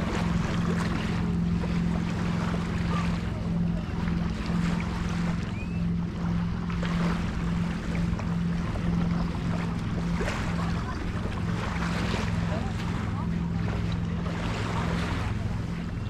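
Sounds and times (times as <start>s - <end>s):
light surf wash: 0.0s - 16.0s
steady low hum: 0.0s - 16.0s.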